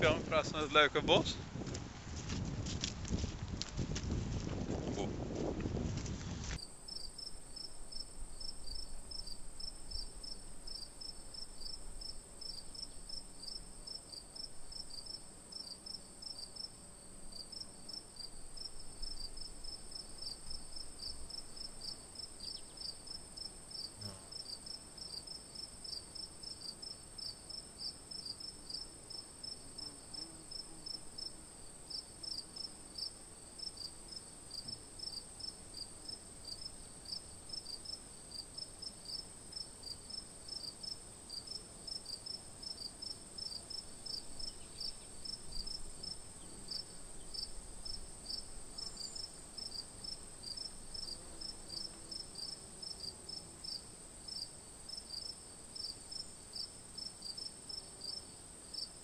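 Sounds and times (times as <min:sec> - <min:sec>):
insect chirping: 0:06.5 - 0:59.0.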